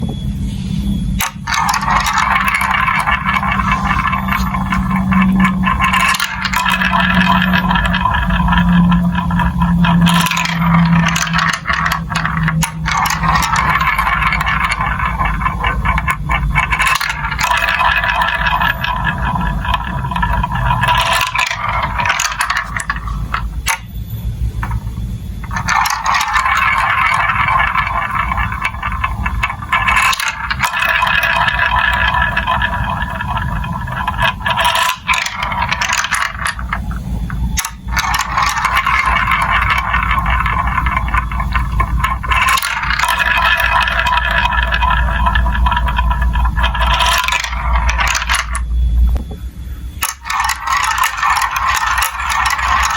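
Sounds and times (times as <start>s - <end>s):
marbles rattling down plastic run: 1.2s - 48.8s, 49.9s - 52.9s.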